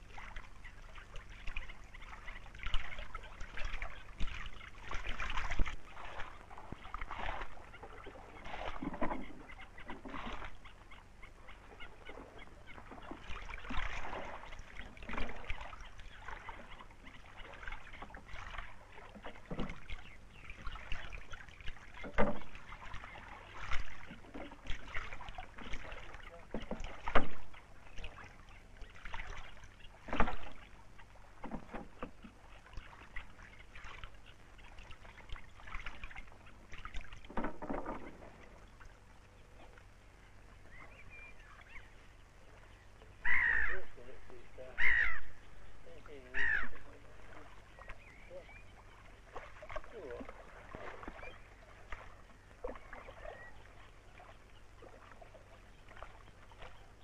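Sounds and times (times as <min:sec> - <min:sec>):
oars splashing and knocking: 0:00.0 - 0:45.2, 0:45.8 - 0:57.0.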